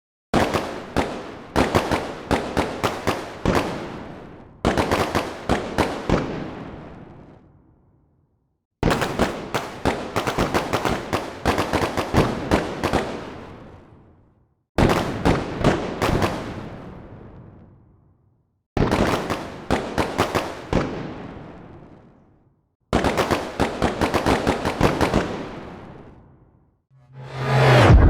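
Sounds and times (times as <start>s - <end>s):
fireworks bangs and crackles: 0.4s - 7.8s, 8.8s - 17.9s, 18.8s - 26.4s.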